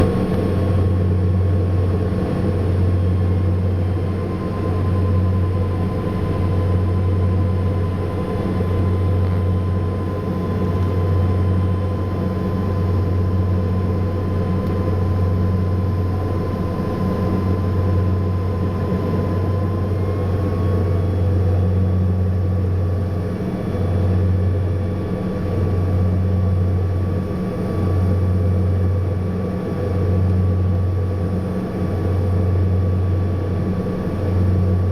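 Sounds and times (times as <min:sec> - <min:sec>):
thin steady whine: 0:00.0 - 0:34.9
turboprop engines droning: 0:00.0 - 0:34.9.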